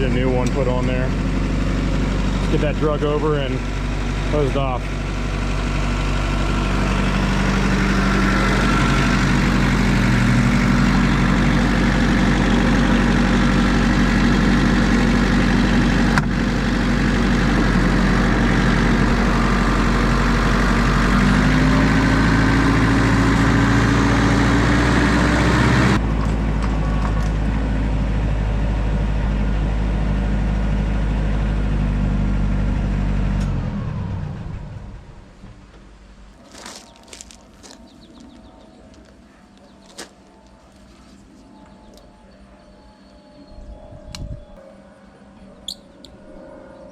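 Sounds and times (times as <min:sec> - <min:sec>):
tractor engine running: 0:00.0 - 0:42.8.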